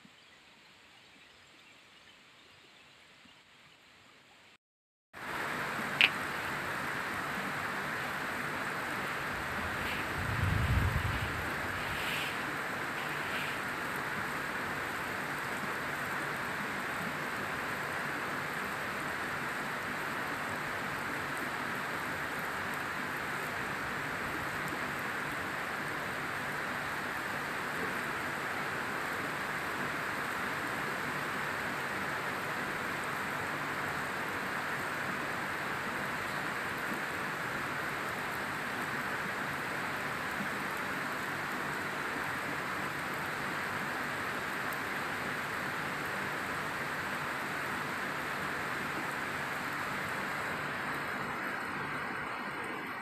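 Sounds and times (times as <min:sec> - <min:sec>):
steady rain falling: 0:05.2 - 0:53.0.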